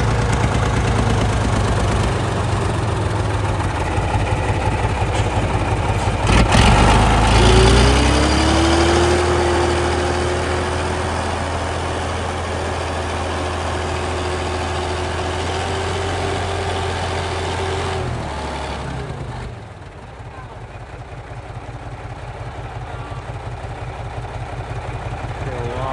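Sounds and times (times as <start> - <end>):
engine whine: 0.0 - 20.5, 22.2 - 25.9
truck engine running: 0.0 - 25.9.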